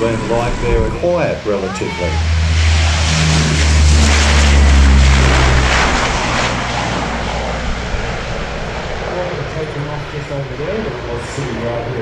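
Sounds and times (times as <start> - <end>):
deep propeller drone: 0.0 - 12.0.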